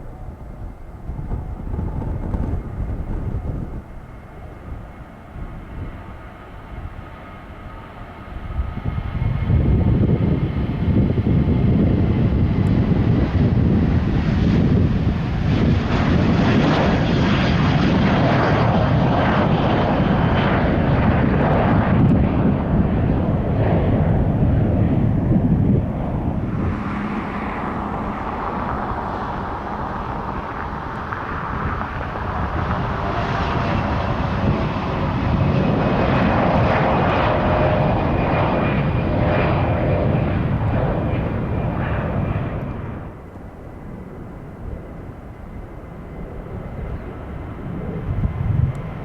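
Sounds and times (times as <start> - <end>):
jet engines roaring: 0.0 - 49.0
wind: 0.0 - 49.0.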